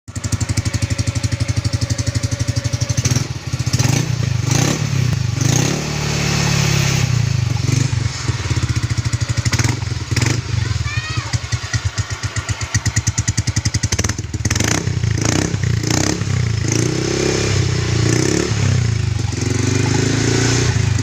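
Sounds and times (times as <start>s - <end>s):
scooter engine idling and revving: 0.1s - 21.0s.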